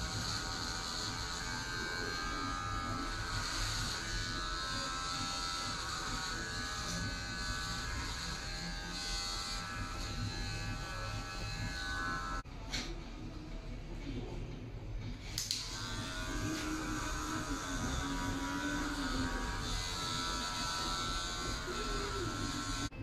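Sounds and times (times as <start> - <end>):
electric hair clippers buzzing: 0.0 - 12.5, 15.3 - 23.0.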